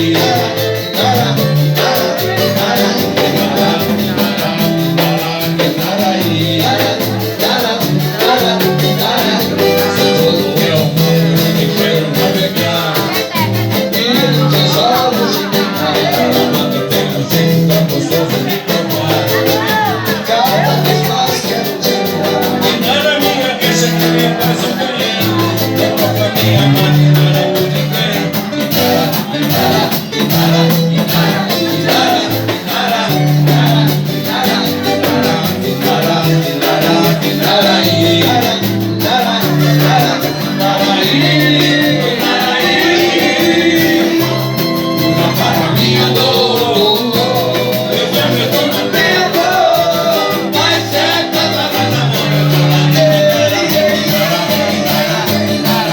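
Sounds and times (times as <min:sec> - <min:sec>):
band playing latin music: 0:00.0 - 0:55.9
person singing: 0:00.0 - 0:55.9.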